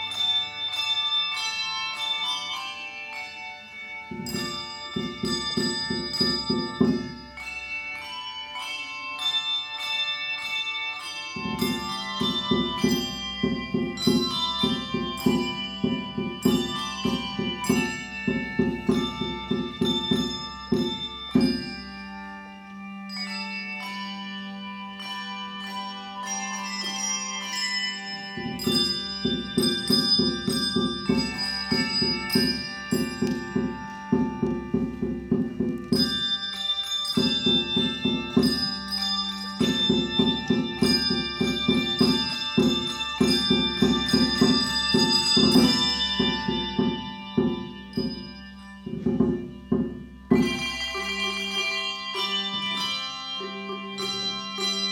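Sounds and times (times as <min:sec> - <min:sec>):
handbell choir ringing: 0:00.0 - 0:54.9
held low bell note: 0:03.6 - 0:54.9.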